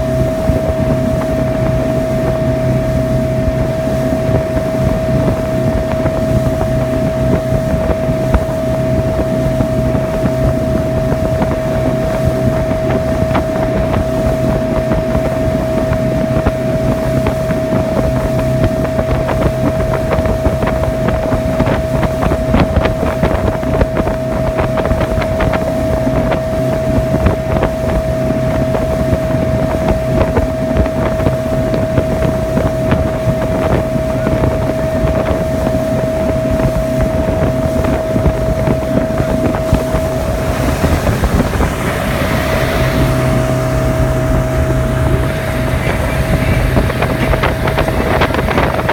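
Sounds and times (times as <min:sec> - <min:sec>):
motorboat engine running: 0:00.0 - 0:48.9
wind buffeting microphone: 0:00.0 - 0:48.9.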